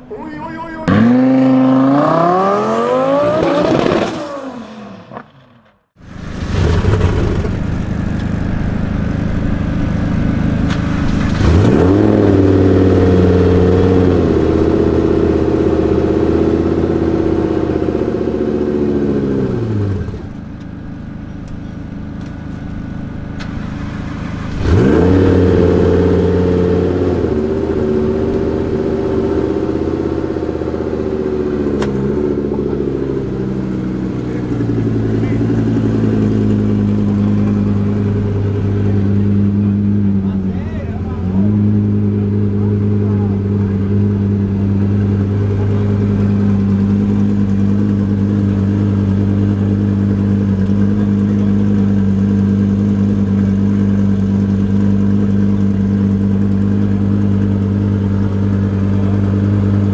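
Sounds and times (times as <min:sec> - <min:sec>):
car engine starting and revving: 0:00.8 - 0:59.9.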